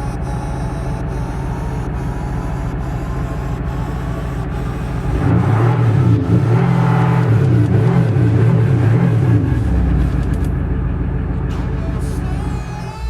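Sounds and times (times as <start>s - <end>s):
diesel engine rumbling and revving: 0.0s - 13.0s.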